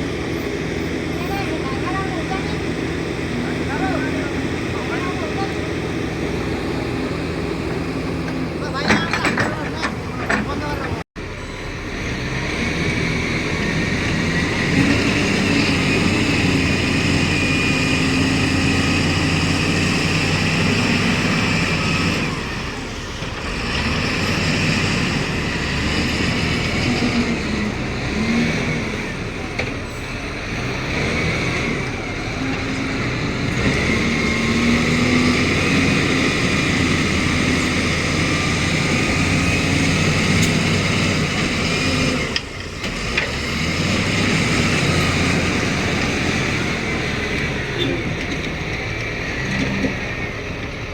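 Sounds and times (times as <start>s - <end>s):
diesel machinery engine running: 0.0s - 50.9s.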